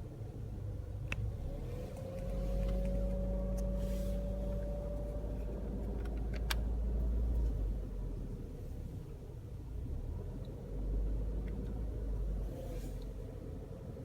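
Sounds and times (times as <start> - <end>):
car cabin drone: 0.0 - 14.0.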